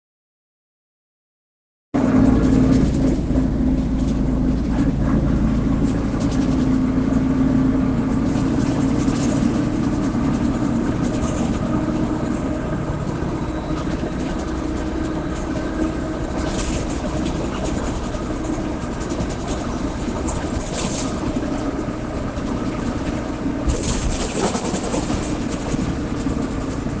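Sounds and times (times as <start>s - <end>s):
bus engine drone: 2.0s - 27.0s
rear differential humming: 2.0s - 27.0s.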